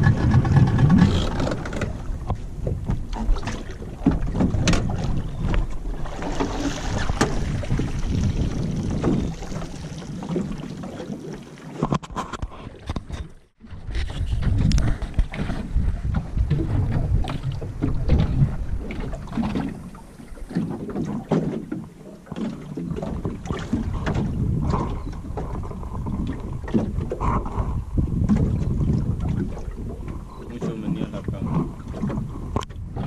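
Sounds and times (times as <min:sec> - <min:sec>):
wind buffeting microphone: 0:00.0 - 0:11.4, 0:12.3 - 0:21.8, 0:22.8 - 0:33.0
knocks and splashes: 0:00.0 - 0:33.0
water lapping against boat hull: 0:00.0 - 0:33.0.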